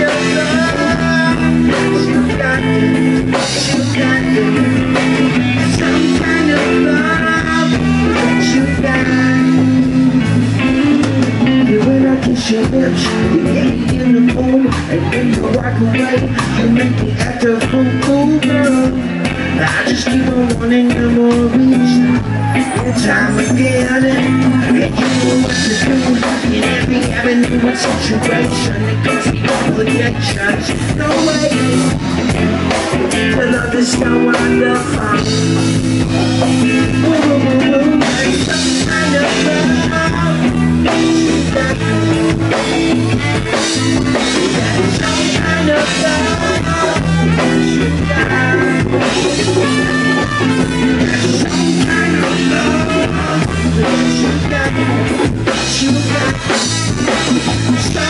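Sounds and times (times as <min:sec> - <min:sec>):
bass: 0:00.0 - 0:58.0
drum kit: 0:00.0 - 0:58.0
electric guitars: 0:00.0 - 0:58.0.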